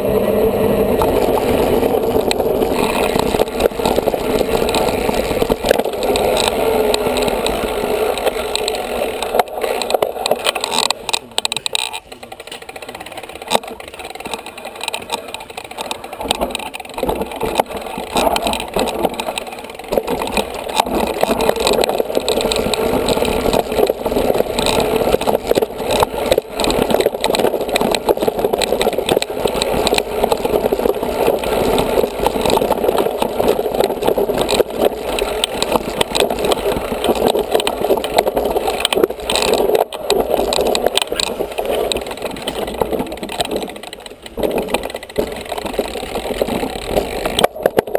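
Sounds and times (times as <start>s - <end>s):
mountain bike rattling over rough trail: 0.0s - 47.9s.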